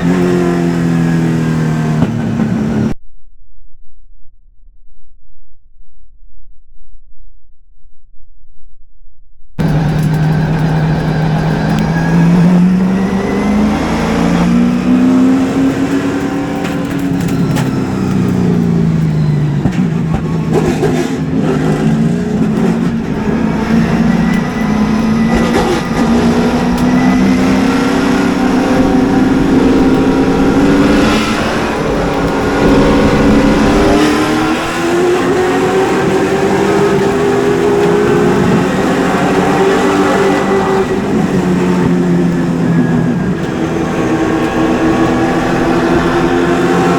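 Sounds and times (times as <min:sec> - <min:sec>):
race car engine: 0:00.0 - 0:03.0, 0:09.6 - 0:46.9.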